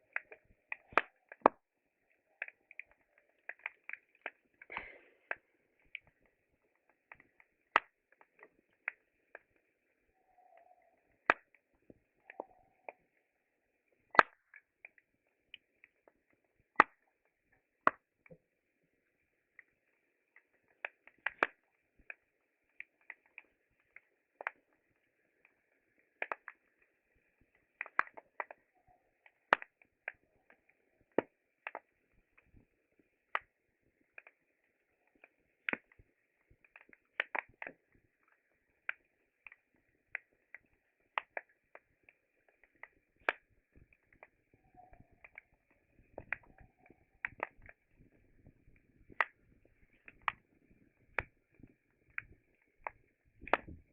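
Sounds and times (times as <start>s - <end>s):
campfire wood crackling: 0.0s - 53.9s.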